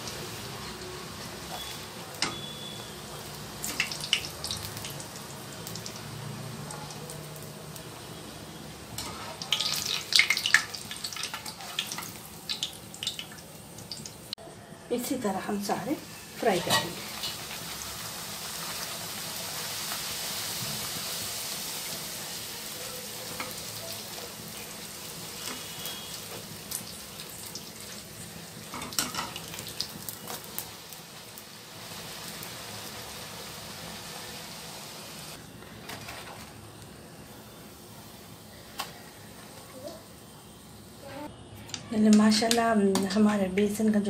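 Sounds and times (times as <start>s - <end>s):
deep-frying sizzle in oil: 0.0s - 41.3s.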